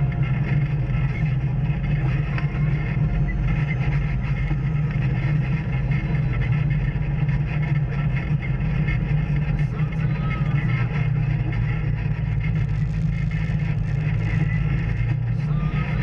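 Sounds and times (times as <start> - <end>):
off-road vehicle engine droning: 0.0 - 16.0.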